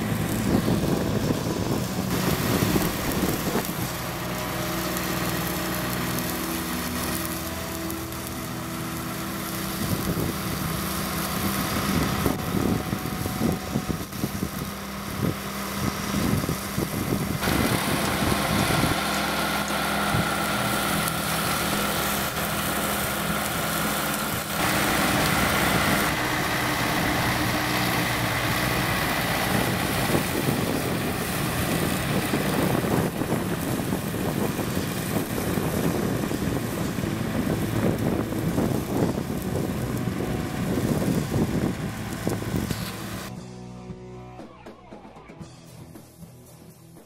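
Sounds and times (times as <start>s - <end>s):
tractor mower hum and whine: 0.0s - 43.5s.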